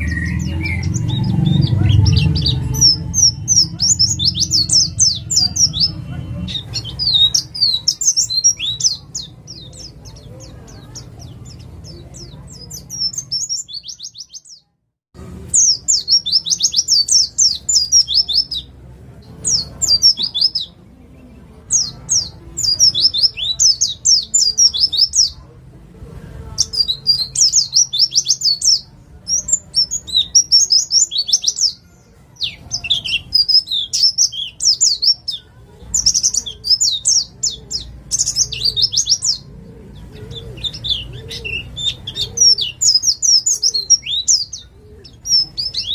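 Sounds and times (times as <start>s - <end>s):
bird singing rapid chirps: 0.0s - 14.7s, 15.5s - 18.7s, 19.3s - 25.4s, 26.6s - 31.8s, 32.4s - 45.9s.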